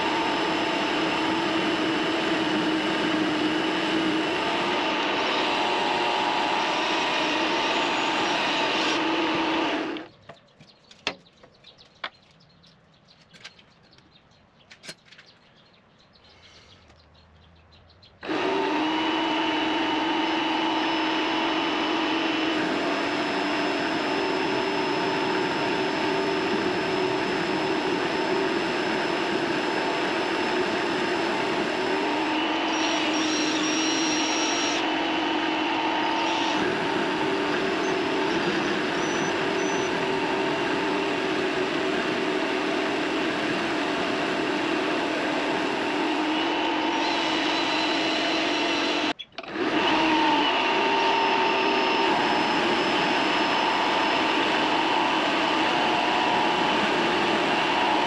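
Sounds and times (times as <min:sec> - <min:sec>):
lathe motor and gear whine: 0:00.0 - 0:10.1, 0:18.2 - 0:58.0.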